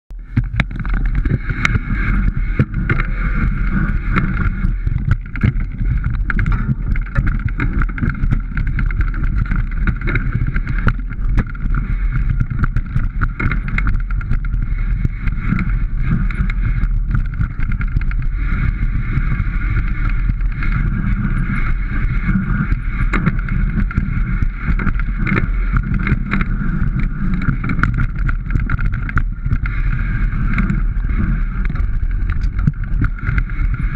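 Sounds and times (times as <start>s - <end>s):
bike rattling over bumps: 0.1s - 33.9s
bike tyres rumbling on dirt trail: 0.1s - 33.9s
wind on microphone: 0.1s - 33.9s.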